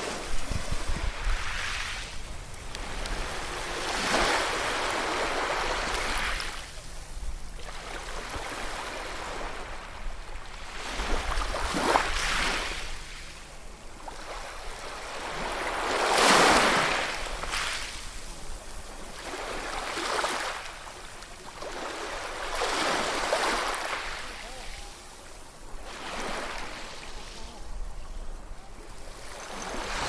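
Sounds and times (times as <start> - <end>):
ocean waves breaking on shore: 0.0 - 30.0.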